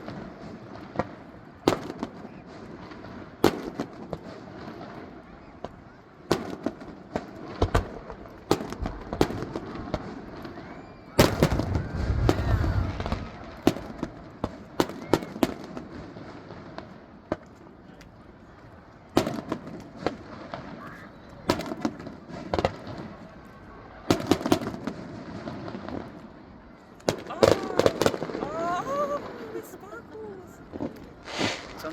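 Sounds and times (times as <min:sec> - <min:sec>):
fireworks bangs and crackles: 0:00.0 - 0:31.9.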